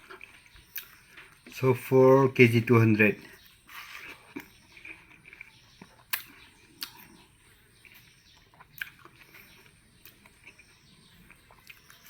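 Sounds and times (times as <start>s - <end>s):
wet chewing mouth sounds: 0.0s - 1.6s, 3.2s - 12.0s.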